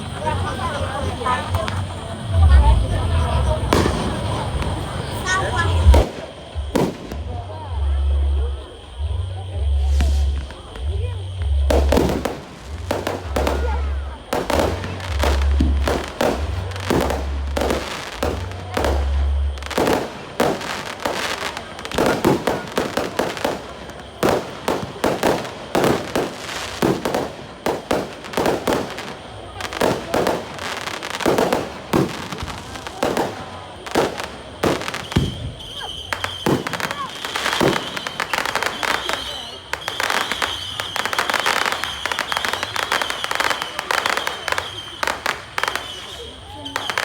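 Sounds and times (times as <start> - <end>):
fireworks banging and crackling: 0.0 - 47.0.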